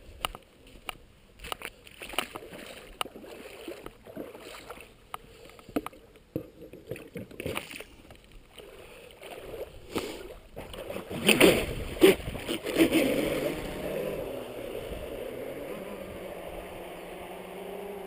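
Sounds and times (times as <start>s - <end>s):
water lapping against boat hull: 0.1s - 17.3s.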